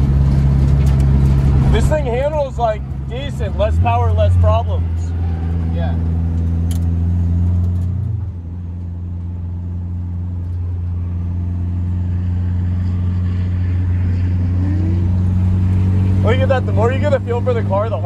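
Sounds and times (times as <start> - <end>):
car engine from inside cabin: 0.0 - 18.0.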